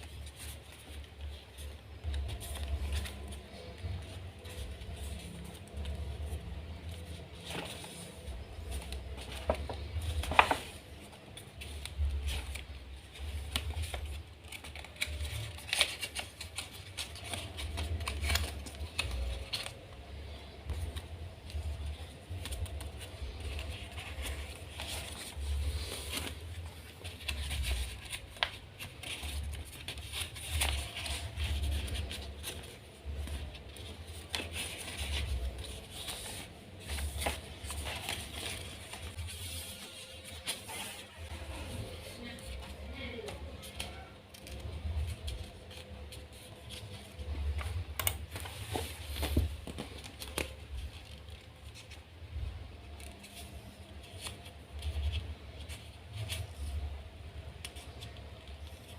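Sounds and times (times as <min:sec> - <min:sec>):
paper rustling and creasing: 0:00.0 - 0:58.9.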